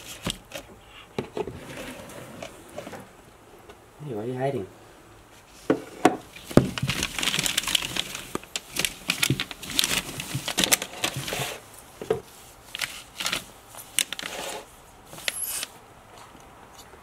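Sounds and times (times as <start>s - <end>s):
rustling and crinkling: 0.0s - 3.2s, 5.3s - 17.0s.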